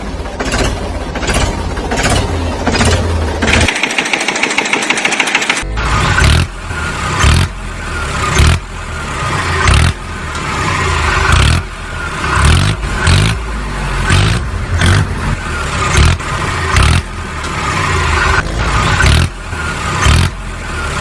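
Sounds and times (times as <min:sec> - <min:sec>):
vehicle engine revving: 0:00.0 - 0:03.8, 0:05.6 - 0:21.0.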